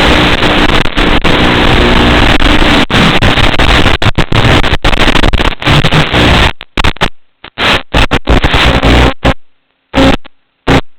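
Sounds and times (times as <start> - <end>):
harsh distorted drone noise: 0.0 - 10.9.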